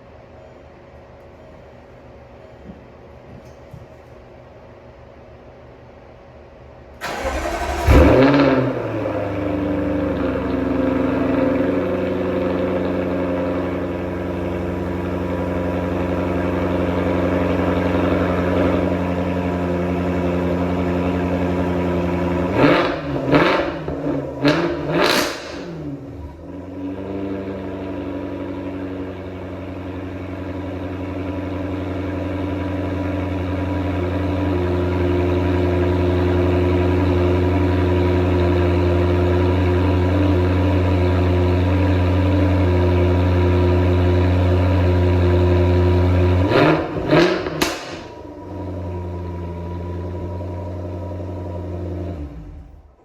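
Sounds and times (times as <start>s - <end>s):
car engine idling: 7.0s - 53.0s
engine revving: 7.0s - 53.0s.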